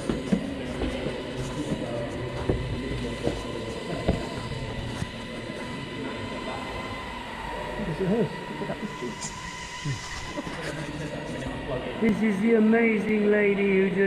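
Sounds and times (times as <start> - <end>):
faint steady high hum: 0.0 - 14.0.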